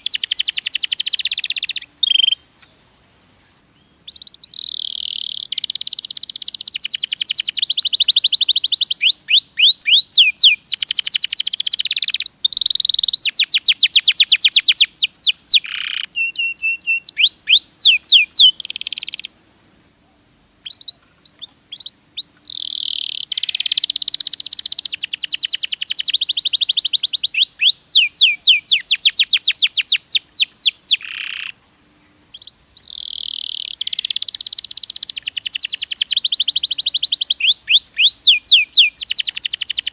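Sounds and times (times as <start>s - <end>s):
canary singing trills: 0.0s - 2.8s, 3.5s - 19.4s, 20.1s - 39.9s.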